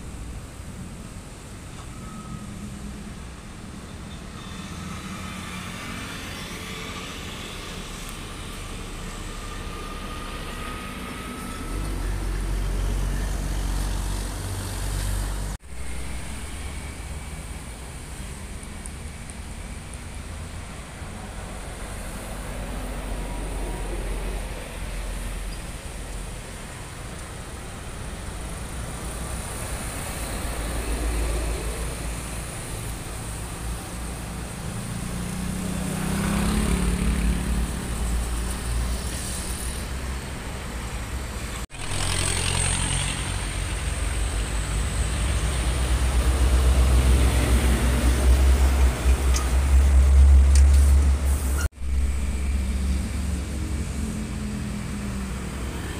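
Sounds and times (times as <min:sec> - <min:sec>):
heavy trucks driving past: 0:00.0 - 0:55.9.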